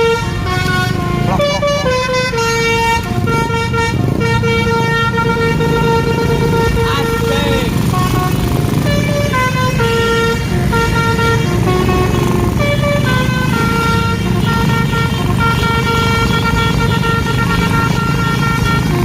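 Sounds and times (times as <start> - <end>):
bus engine rumble: 0.0 - 19.0
multi-tone bus horn tune: 0.0 - 19.0.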